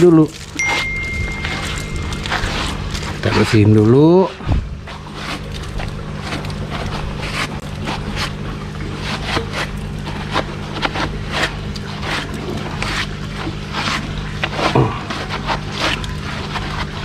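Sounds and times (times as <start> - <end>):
steady low hum: 0.0 - 17.0
hand brushing grit on concrete: 0.8 - 17.0.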